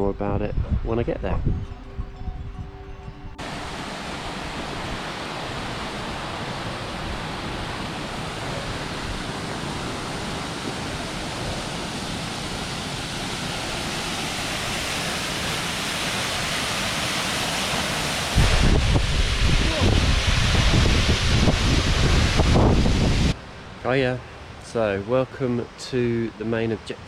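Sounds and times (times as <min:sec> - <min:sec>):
waterfall rushing: 0:03.4 - 0:26.3.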